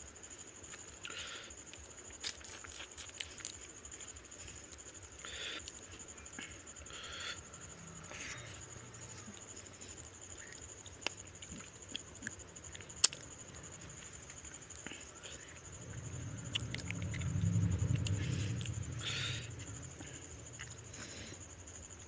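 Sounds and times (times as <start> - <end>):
soft chewing: 0.6 - 6.9, 8.2 - 21.5.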